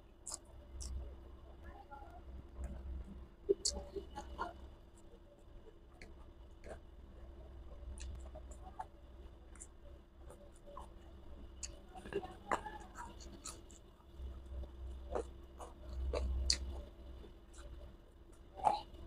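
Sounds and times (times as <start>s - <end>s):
chewing: 0.2s - 1.2s, 2.6s - 19.0s.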